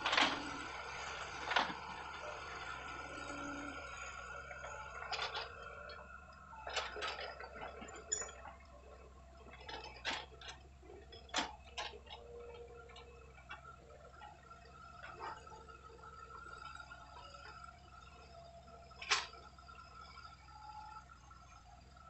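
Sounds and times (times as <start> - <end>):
excavator engine drone: 0.0 - 22.0.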